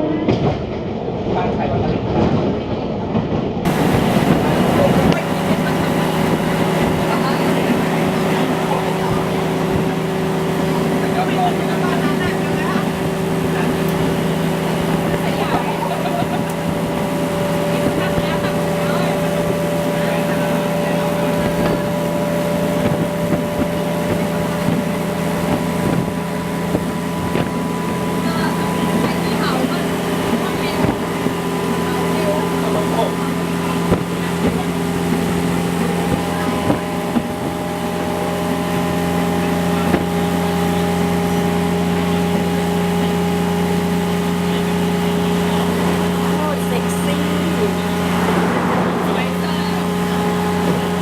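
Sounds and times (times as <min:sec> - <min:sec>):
train running hum: 0:00.0 - 0:51.0.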